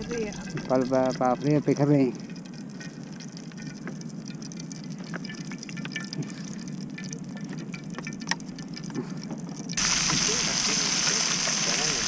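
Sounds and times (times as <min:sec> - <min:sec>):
low background rumble: 0:00.0 - 0:11.5
oil trickling into a pan: 0:00.0 - 0:12.0.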